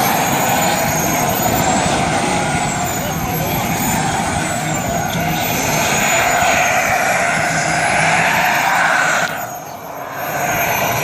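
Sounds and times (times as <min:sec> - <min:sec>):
model jet rushing whine: 0:00.0 - 0:11.0.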